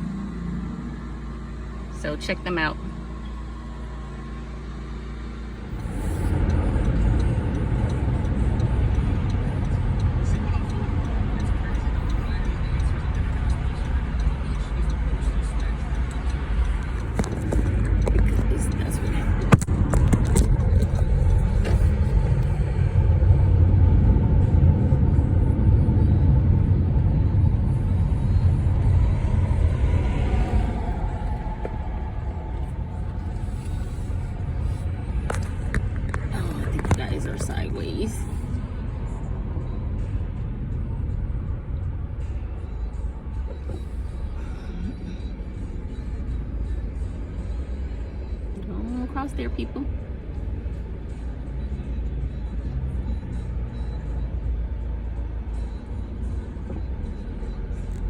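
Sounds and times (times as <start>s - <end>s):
car engine running: 0.0s - 58.0s
rough low engine rumble: 0.0s - 58.0s.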